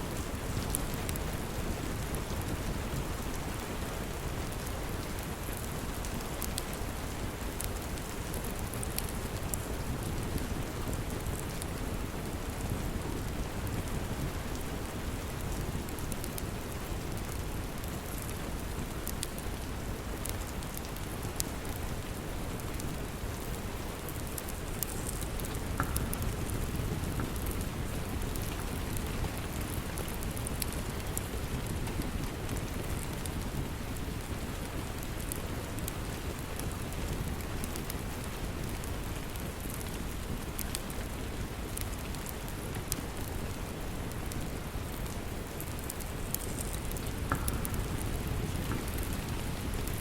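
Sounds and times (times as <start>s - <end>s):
steady rain: 0.0s - 50.0s
wood fire crackling: 0.0s - 50.0s.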